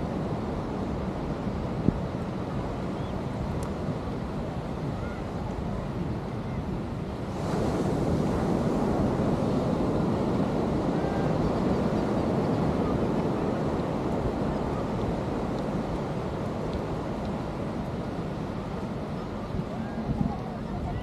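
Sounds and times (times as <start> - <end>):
ocean surf on beach: 0.0 - 21.0
wind buffeting microphone: 0.0 - 21.0.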